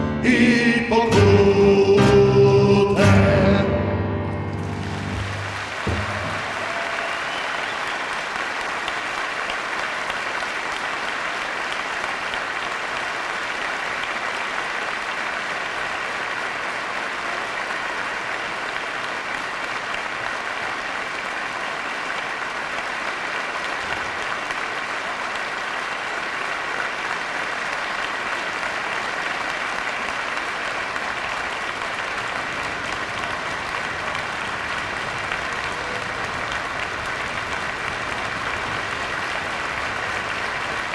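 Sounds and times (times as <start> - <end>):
audience applauding: 4.3 - 40.9.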